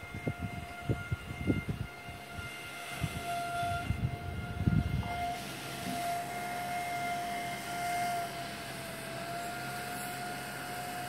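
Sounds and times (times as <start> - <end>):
cooling fan humming: 0.0 - 11.0.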